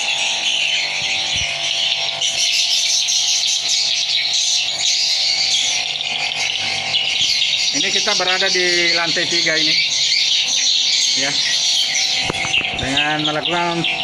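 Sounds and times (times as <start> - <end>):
swiftlets twittering: 0.0 - 14.0.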